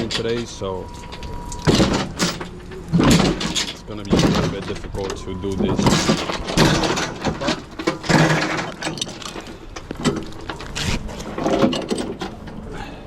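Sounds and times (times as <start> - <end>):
cases clattering and knocking: 0.0 - 12.7
short squeaks: 0.0 - 12.8.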